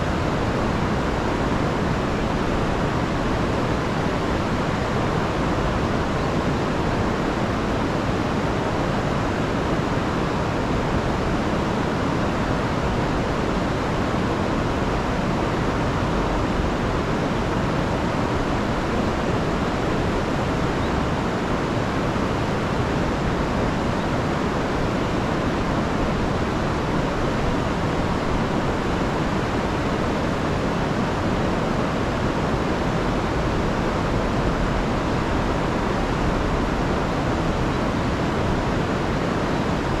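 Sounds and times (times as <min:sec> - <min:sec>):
river rushing over waterfalls: 0:00.0 - 0:40.0.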